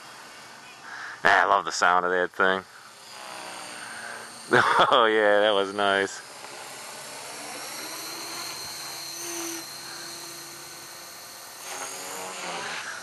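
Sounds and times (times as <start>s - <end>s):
model helicopter whine: 0.0s - 13.0s.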